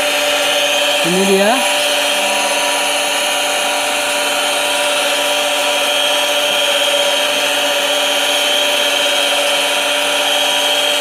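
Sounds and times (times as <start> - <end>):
water pump motor humming: 0.0 - 11.0.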